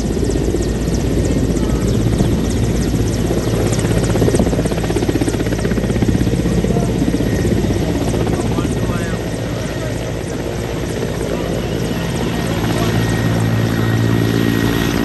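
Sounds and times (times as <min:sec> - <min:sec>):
helicopter rotor chopping: 0:00.0 - 0:15.0
loud helicopter engine: 0:00.0 - 0:15.0.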